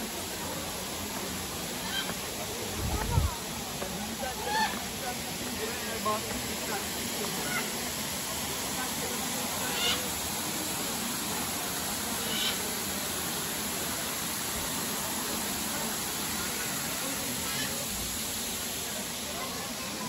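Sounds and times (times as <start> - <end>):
waterfall rushing hiss: 0.0 - 20.0.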